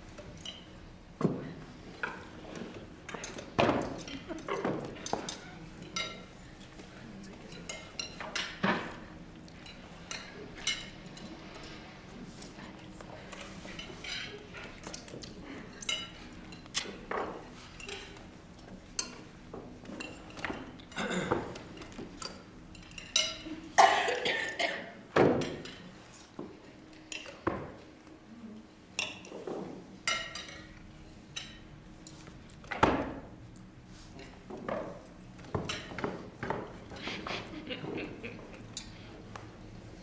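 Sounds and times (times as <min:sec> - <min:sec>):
cutlery clinking on plates: 0:00.2 - 0:00.7, 0:02.0 - 0:27.8, 0:29.0 - 0:32.6, 0:34.2 - 0:37.0.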